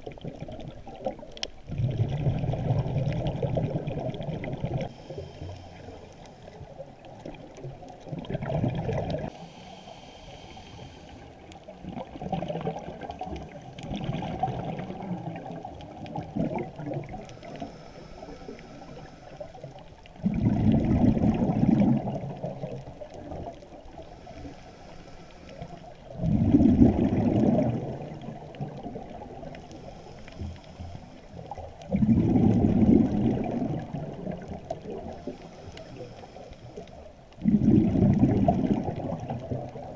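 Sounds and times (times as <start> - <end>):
muffled underwater breath bubbles: 0.0 - 39.9.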